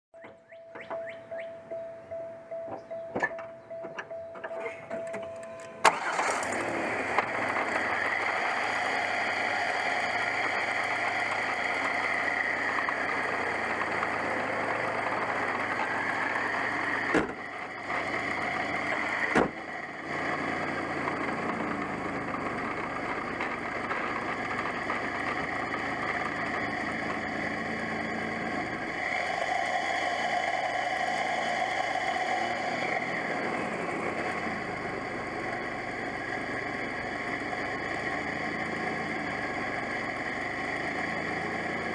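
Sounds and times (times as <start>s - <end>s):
car engine running: 0.2s - 41.9s.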